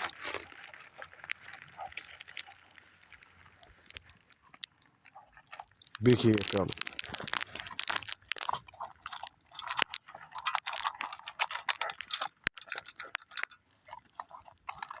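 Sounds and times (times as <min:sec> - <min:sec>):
dog chewing crunchy food: 0:00.0 - 0:15.0.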